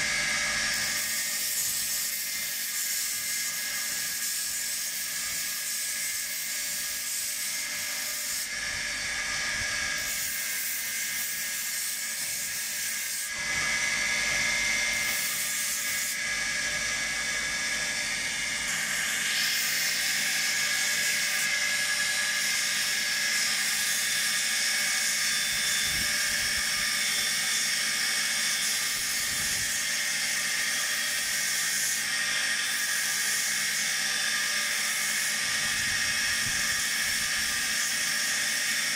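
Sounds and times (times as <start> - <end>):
belt sander sanding wood: 0.0 - 38.9.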